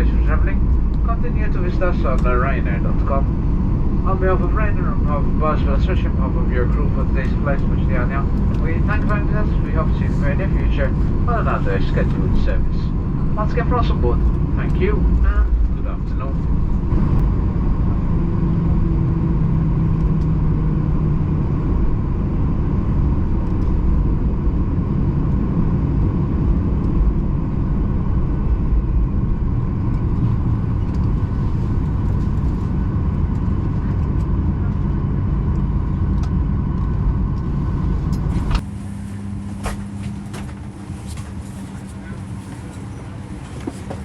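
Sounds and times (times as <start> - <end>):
aircraft cabin engine rumble: 0.0 - 44.0.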